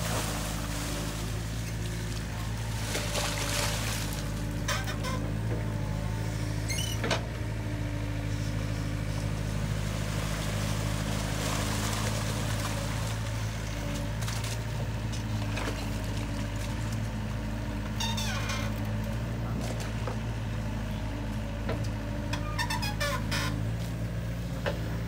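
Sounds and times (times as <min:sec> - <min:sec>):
excavator diesel engine running: 0:00.0 - 0:25.0
excavator digging in mud: 0:00.0 - 0:25.0.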